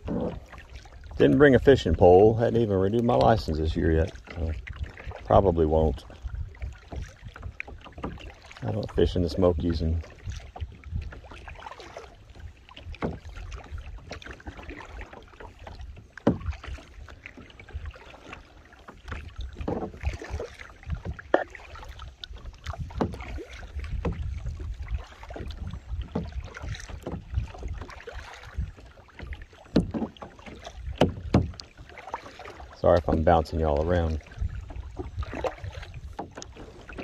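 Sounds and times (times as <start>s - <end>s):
wind rumble on microphone: 0.0s - 14.6s, 19.1s - 30.0s, 32.8s - 37.0s
kayak knocks and thumps: 0.0s - 37.0s
paddle strokes splashing: 0.0s - 37.0s.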